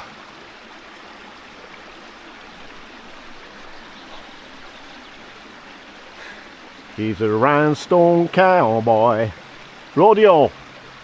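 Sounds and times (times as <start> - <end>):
brook running over stones: 0.0 - 11.0.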